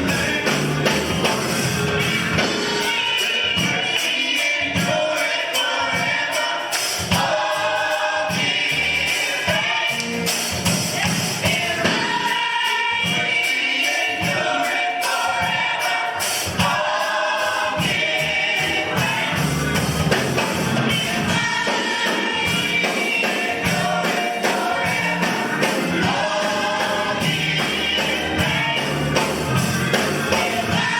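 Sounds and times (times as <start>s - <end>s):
drums and tambourine beat: 0.0s - 30.9s
gospel choir singing: 0.0s - 30.9s.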